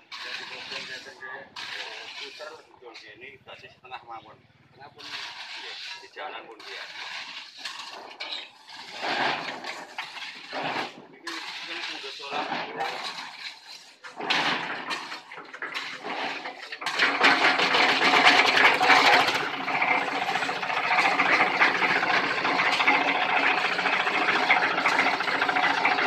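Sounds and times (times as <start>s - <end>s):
concrete mixer rattling: 0.0s - 26.0s.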